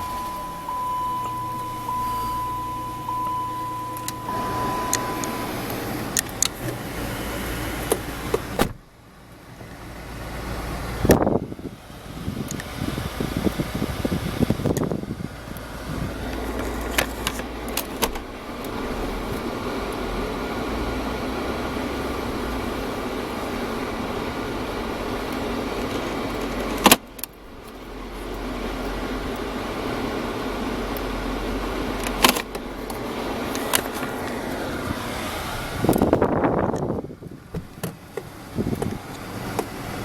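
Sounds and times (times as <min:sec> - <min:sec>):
car engine running smoothly: 0:00.0 - 0:40.0.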